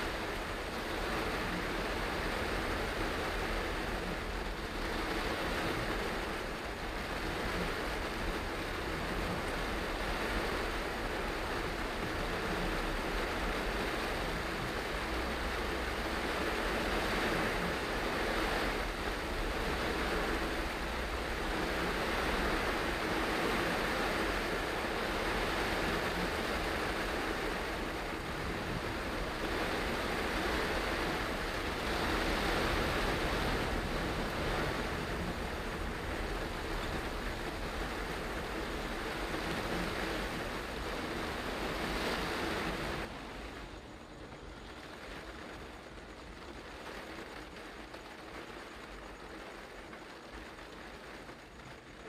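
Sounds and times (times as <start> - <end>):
heavy rain on a car: 0.0 - 52.0
tyres hissing on a wet road: 0.0 - 52.0.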